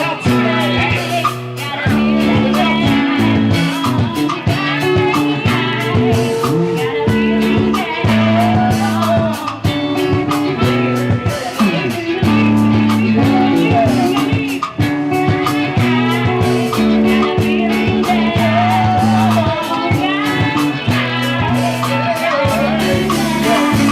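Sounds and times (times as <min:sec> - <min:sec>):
drum kit groove: 0:00.0 - 0:23.9
guitar: 0:00.0 - 0:23.9
person singing: 0:00.0 - 0:23.9.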